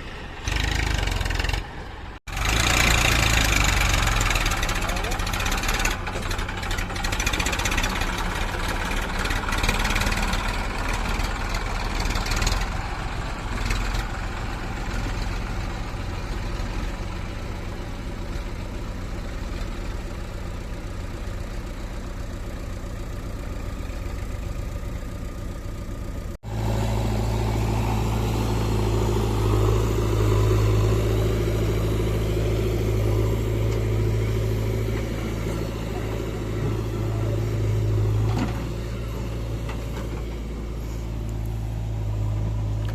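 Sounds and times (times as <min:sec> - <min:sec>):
diesel machinery running: 0:00.0 - 0:42.9.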